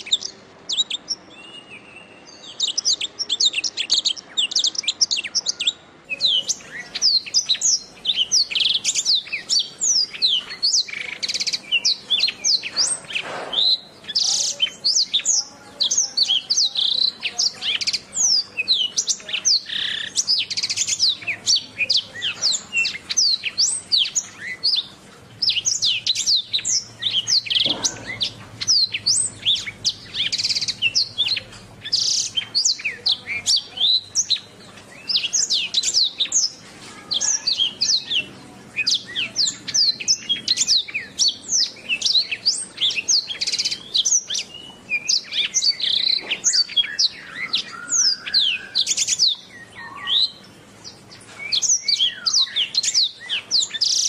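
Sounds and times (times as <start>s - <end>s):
canary singing chirps and trills: 0.0s - 54.0s.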